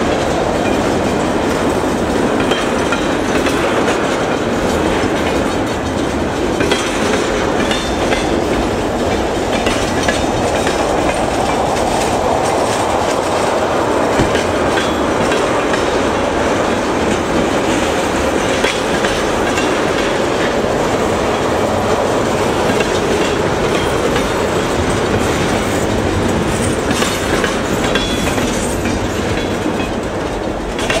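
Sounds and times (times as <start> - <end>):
freight train wheels on rails: 0.0 - 31.0.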